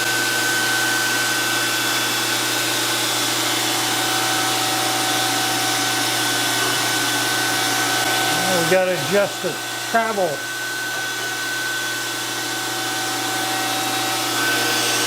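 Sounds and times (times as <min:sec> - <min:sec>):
surface grinder whirring: 0:00.0 - 0:15.0.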